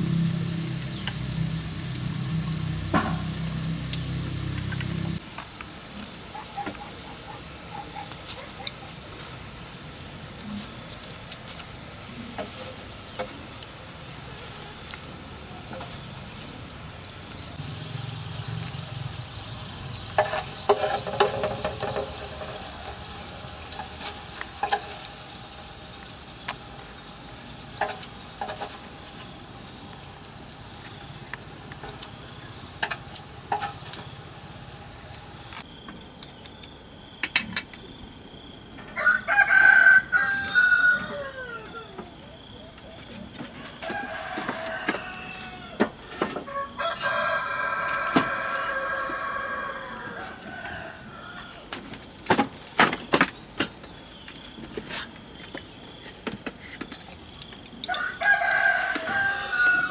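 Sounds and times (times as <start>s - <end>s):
potato slices sizzling in pan: 0.0s - 35.7s, 43.7s - 52.8s, 53.4s - 59.9s.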